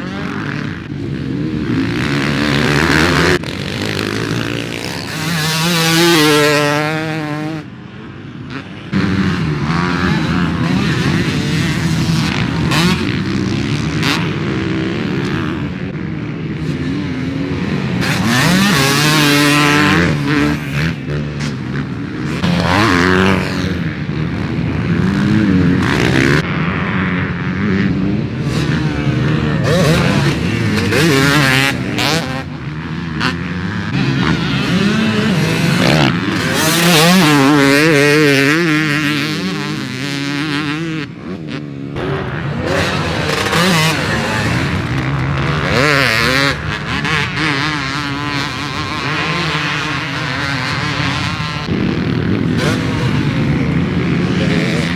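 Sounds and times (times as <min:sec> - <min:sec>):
dirt bike engine revving: 0:00.0 - 0:07.8, 0:08.5 - 0:54.9.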